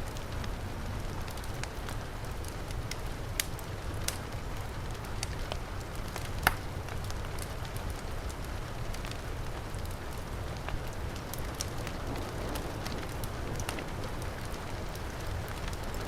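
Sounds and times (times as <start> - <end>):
heavy rain: 0.0 - 16.0
wood fire crackling: 0.0 - 16.0
fire popping: 0.1 - 16.0.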